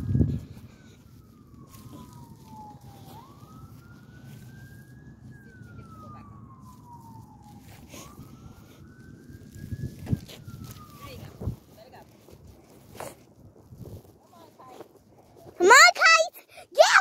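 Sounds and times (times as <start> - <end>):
faint siren wailing: 0.0 - 17.0.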